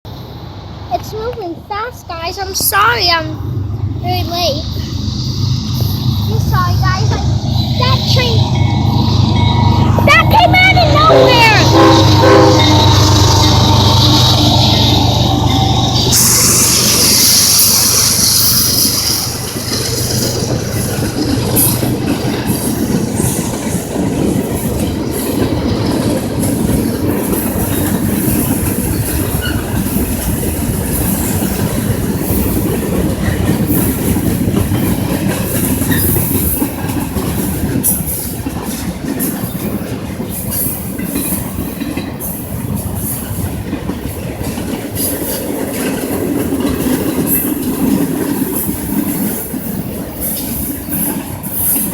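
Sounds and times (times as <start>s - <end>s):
train wheels rumbling on rails: 0.1s - 51.9s.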